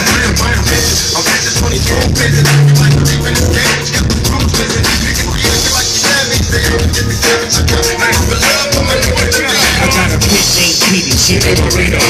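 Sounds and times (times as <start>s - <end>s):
live hip hop music with heavy bass: 0.0s - 12.0s.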